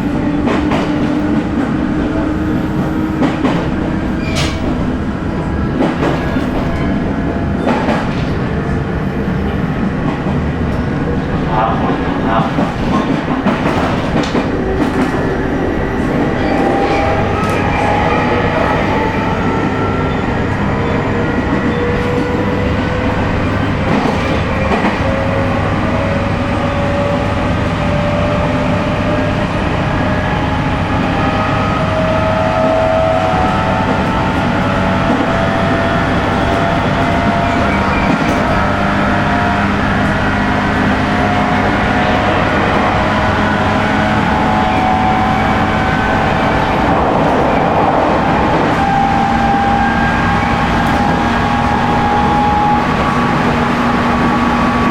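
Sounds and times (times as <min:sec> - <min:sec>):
wheels rumbling on rails: 0:00.0 - 0:54.9.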